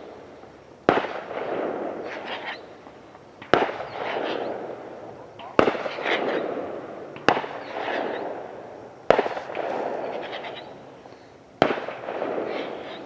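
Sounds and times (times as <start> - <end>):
firework bangs: 0.0 - 13.0
firework crackle and rumble: 0.0 - 13.0.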